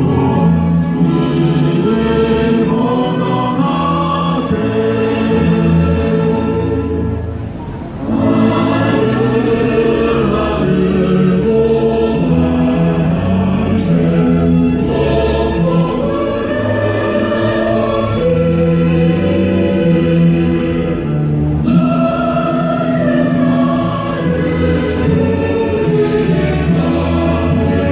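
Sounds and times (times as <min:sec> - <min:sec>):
choir singing held notes: 0:00.0 - 0:27.9.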